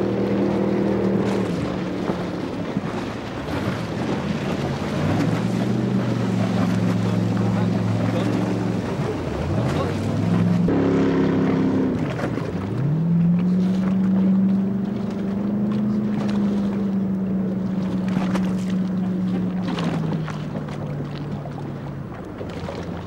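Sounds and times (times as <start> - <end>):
speedboat engine running hard: 0.0 - 23.0.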